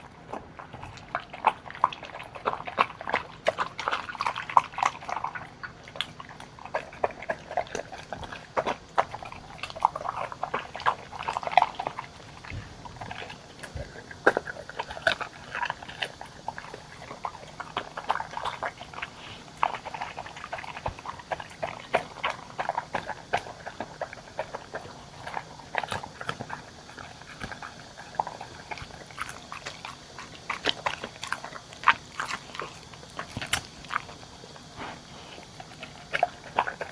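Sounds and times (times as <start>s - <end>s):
dogs lapping and chewing: 0.0s - 36.9s.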